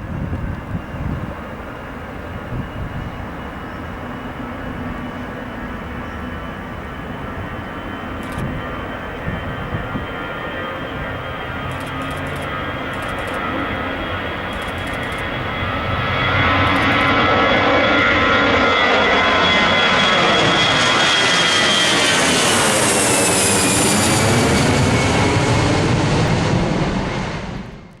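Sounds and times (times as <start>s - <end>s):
jet engine roar taking off: 0.0s - 28.0s.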